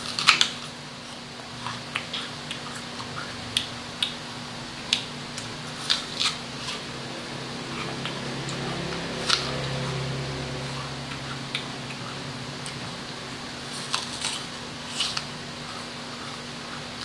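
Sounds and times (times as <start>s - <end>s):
apple bite crunch: 0.0s - 4.2s, 4.8s - 17.0s
crunchy chewing: 0.0s - 17.0s.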